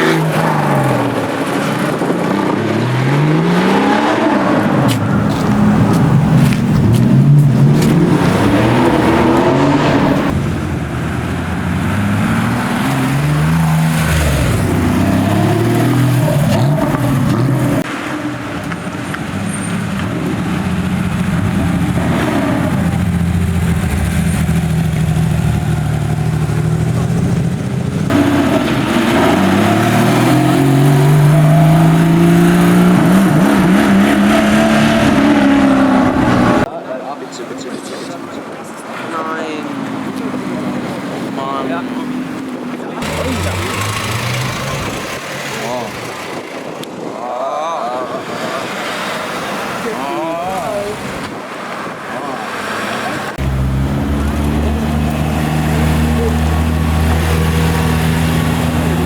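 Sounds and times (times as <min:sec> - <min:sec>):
sports car engines revving: 0:00.0 - 0:36.8, 0:37.6 - 0:47.2, 0:47.9 - 0:59.0.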